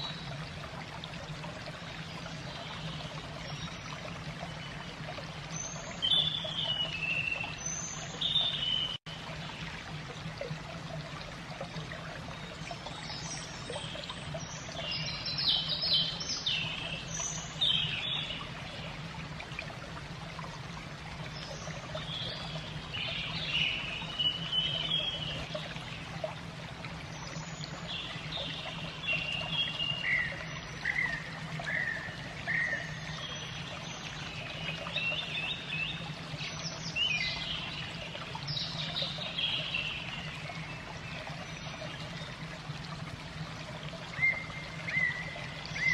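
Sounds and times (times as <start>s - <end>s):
trickling water: 0.0s - 45.9s.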